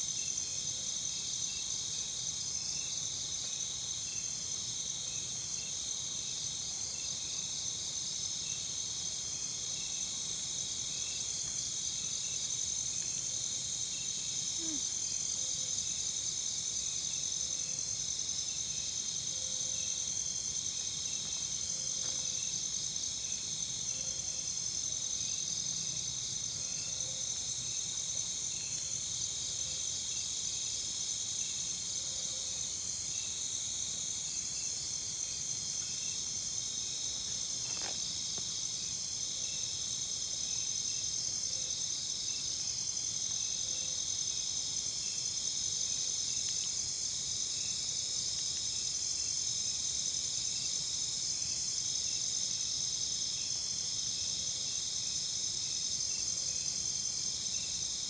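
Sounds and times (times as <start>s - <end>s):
crickets chirping: 0.0s - 58.0s
insects buzzing: 0.0s - 58.0s.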